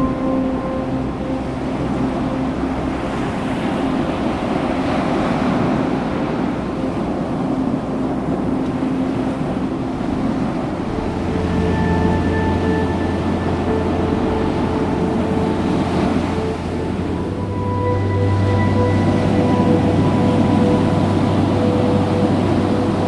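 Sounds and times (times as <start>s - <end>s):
ocean surf washing on beach: 0.0s - 23.0s.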